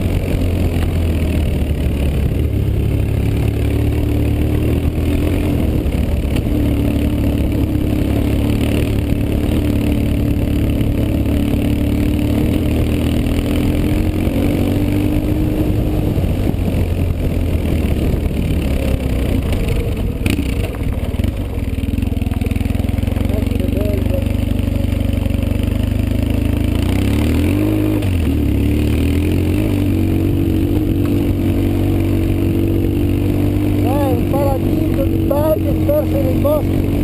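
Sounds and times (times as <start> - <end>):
motorcycle engine running low revs: 0.0 - 37.0.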